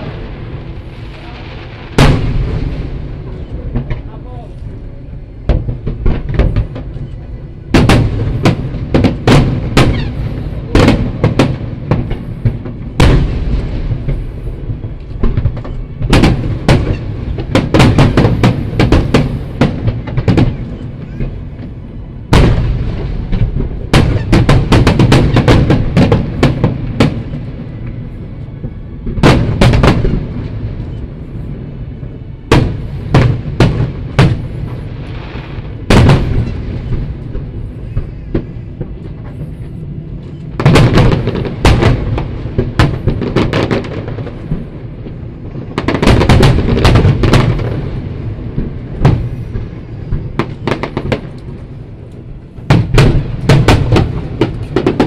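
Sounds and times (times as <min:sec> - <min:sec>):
continuous low rumble: 0:00.0 - 0:55.0
fireworks bursting with sharp bangs: 0:00.0 - 0:55.0.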